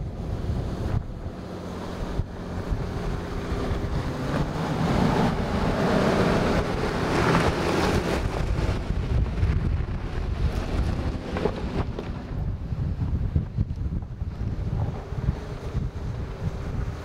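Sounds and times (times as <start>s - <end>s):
engine of passing vehicle: 0.0s - 17.0s
wind buffeting microphone: 0.0s - 17.0s.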